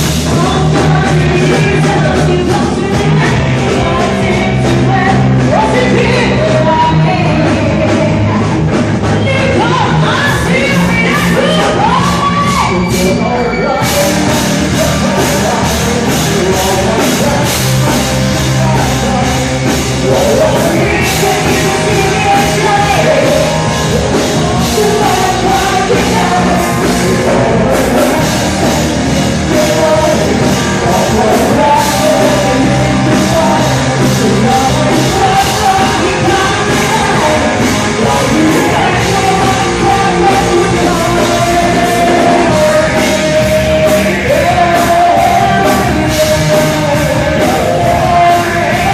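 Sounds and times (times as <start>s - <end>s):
steady drum beat: 0.0s - 13.2s, 13.8s - 48.9s
live rock band playing: 0.0s - 48.9s
person singing lead vocal: 0.0s - 48.9s.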